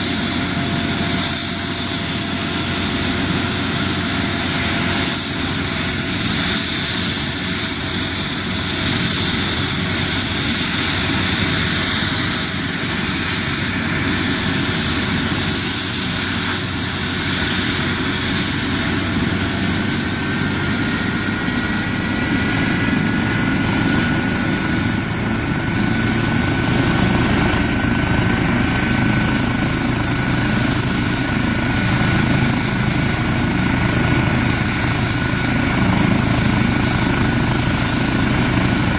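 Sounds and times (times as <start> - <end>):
helicopter rotor turning: 0.0 - 38.9
high turbine whine: 0.0 - 38.9.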